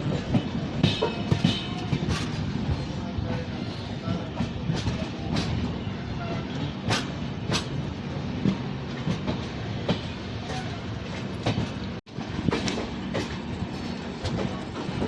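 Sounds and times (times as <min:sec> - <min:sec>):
train rumble: 0:00.0 - 0:15.0
train wheels clickety-clack: 0:00.0 - 0:15.0.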